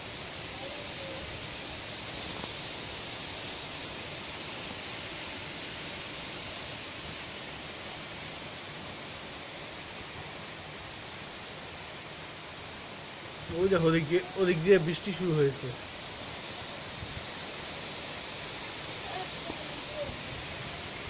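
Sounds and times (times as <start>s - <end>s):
storm wind through trees: 0.0s - 21.0s.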